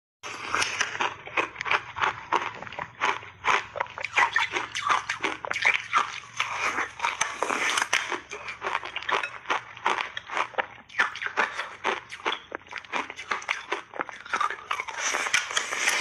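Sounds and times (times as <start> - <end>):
ice being chewed: 0.2 - 16.0.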